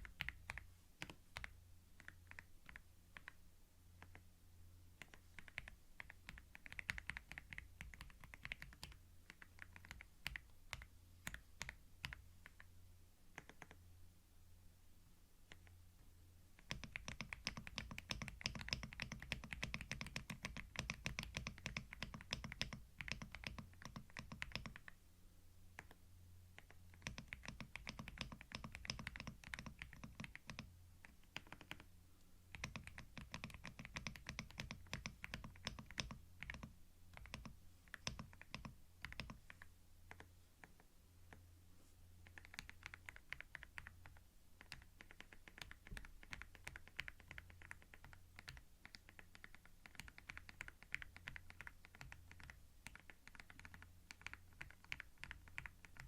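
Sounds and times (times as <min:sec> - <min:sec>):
computer keyboard typing: 0:00.0 - 0:03.4, 0:05.0 - 0:12.7, 0:13.4 - 0:13.8, 0:16.6 - 0:25.0, 0:25.8 - 0:26.0, 0:26.6 - 0:31.9, 0:32.5 - 0:40.8, 0:42.2 - 0:56.0.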